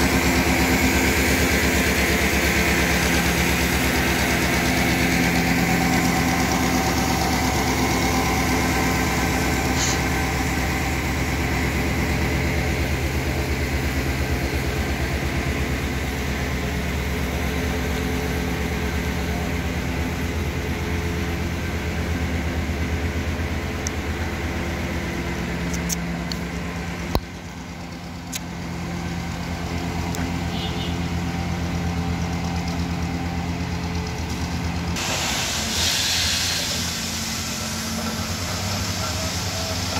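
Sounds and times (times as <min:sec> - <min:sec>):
machine engine running steadily: 0:00.0 - 0:39.9.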